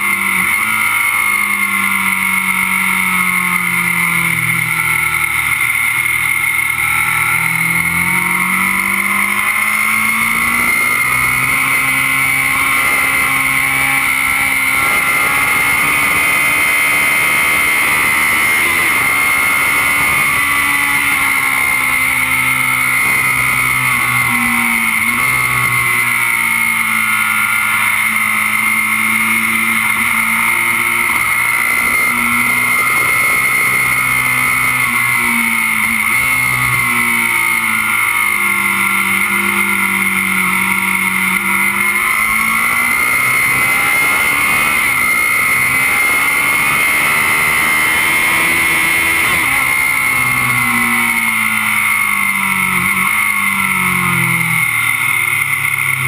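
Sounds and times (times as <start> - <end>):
motorcycle engine revving high: 0.0 - 56.0
wind and road noise: 0.0 - 56.0.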